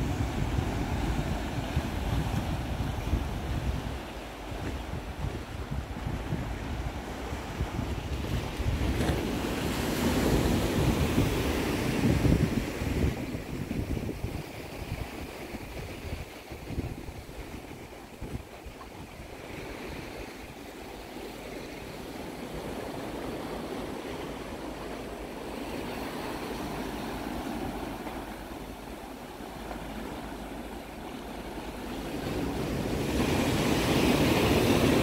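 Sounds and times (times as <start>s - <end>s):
sea waves breaking on a beach: 0.0s - 35.0s.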